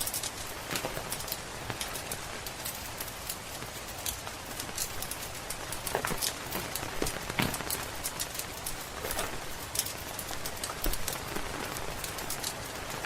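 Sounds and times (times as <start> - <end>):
steady rain pattering: 0.0 - 13.0
wood fire crackling: 0.0 - 13.0.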